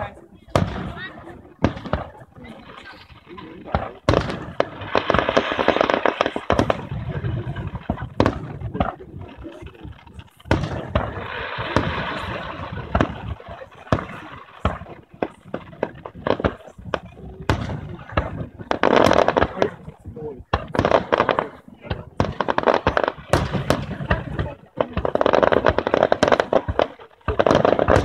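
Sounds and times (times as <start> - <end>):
fireworks bursting and crackling: 0.0 - 28.0
sharp firework cracks: 2.8 - 28.0.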